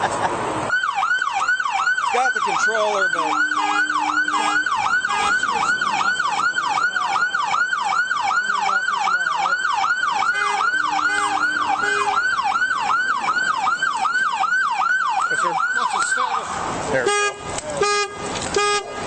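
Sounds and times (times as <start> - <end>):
police siren yelping: 0.7 - 16.5.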